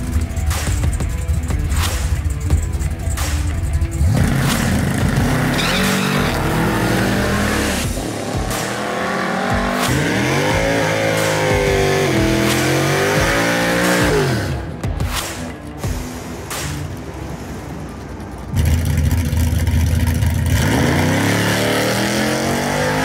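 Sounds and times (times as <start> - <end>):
hot rod engine revving: 0.0 - 15.0, 18.3 - 23.0
tyres spinning in a burnout: 2.6 - 14.8, 16.8 - 23.0
drag race car launching: 3.9 - 23.0.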